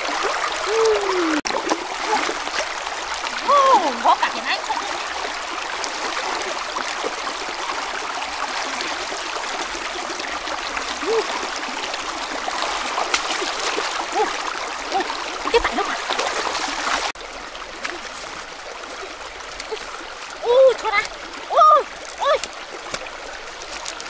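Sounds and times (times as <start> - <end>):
river flowing over rocks: 0.0 - 24.0
water splashing and plopping: 0.0 - 24.0.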